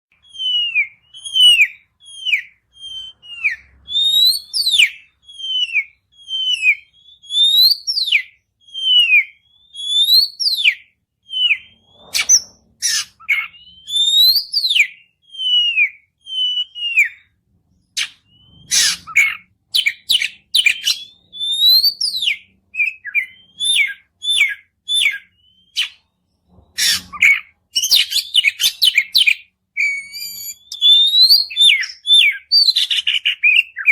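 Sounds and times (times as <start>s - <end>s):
bird singing whistled notes: 0.1s - 33.9s.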